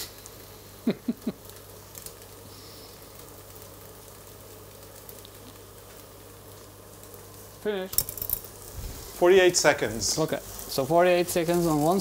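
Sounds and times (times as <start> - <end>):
pancake sizzling in a pan: 0.0 - 12.0.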